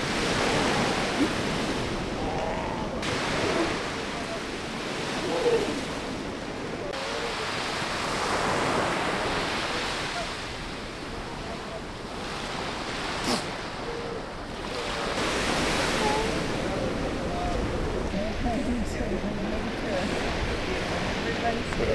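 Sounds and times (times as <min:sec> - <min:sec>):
surf washing onto beach: 0:00.0 - 0:21.9
wind: 0:00.0 - 0:21.9.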